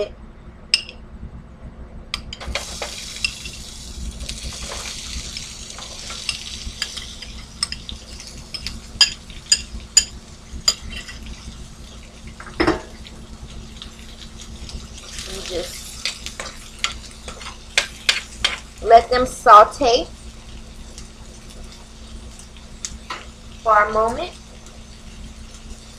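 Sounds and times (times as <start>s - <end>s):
onions sizzling in a skillet: 2.4s - 25.9s.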